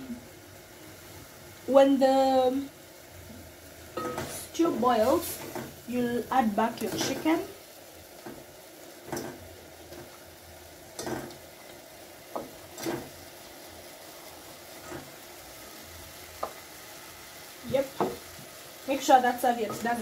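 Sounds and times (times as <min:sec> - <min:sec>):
stew sizzling: 0:00.0 - 0:20.0.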